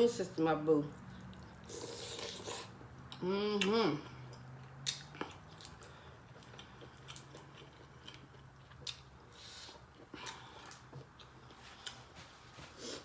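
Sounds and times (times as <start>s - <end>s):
chewing food: 0.9s - 13.0s.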